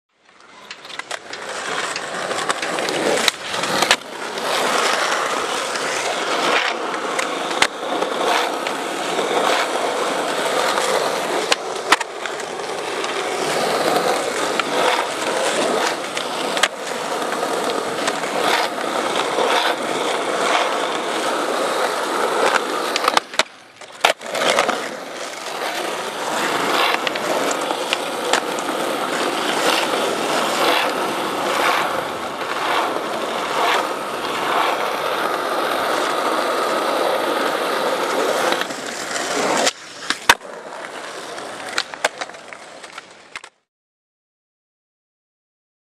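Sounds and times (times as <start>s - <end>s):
skateboard wheels rolling on concrete: 0.1s - 43.7s
skateboard clacks: 0.2s - 43.6s.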